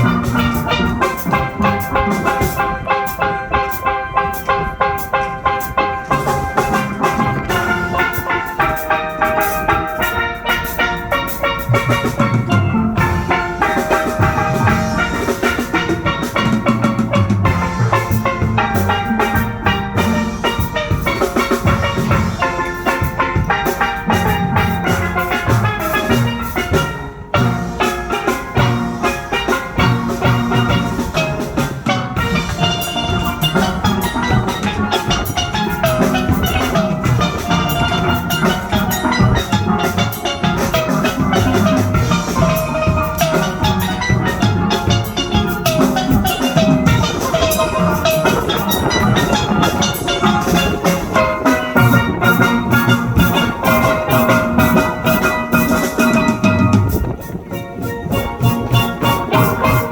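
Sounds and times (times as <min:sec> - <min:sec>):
steel band playing: 0:00.0 - 0:59.9.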